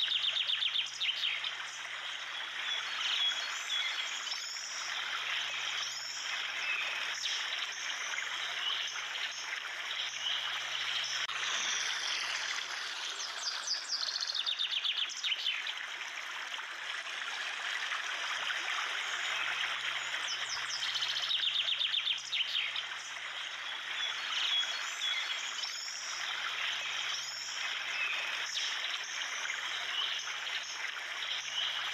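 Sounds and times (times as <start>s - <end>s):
rushing water: 0.0s - 31.9s.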